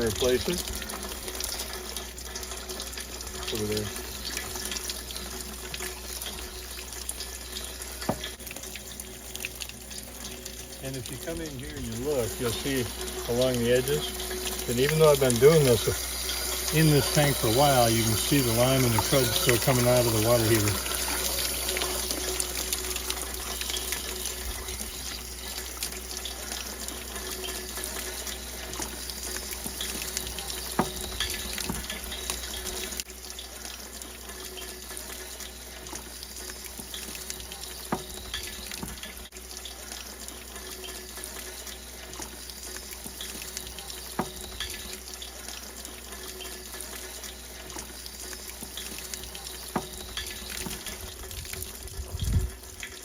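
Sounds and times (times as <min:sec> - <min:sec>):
water rushing from a drain: 0:00.0 - 0:53.0.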